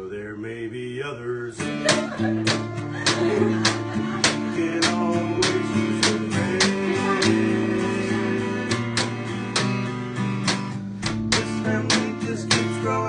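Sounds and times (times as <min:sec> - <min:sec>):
acoustic guitar strumming: 0:00.8 - 0:13.0.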